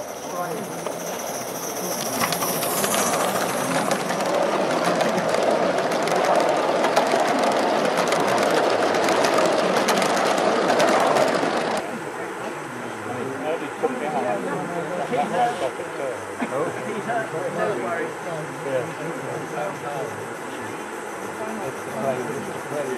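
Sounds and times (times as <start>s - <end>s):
model train wheels rumbling on rails: 0.0s - 12.4s, 13.0s - 22.9s.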